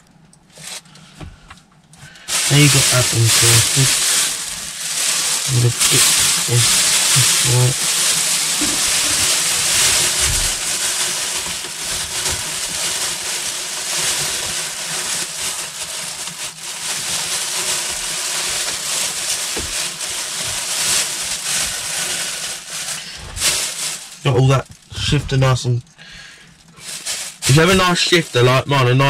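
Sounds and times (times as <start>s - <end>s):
plastic bag crinkling: 0.5s - 1.0s, 2.0s - 29.0s.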